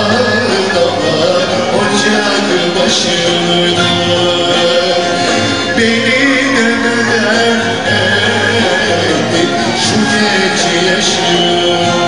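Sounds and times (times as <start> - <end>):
live band with guitars: 0.0 - 12.0
man singing folk song: 0.0 - 12.0.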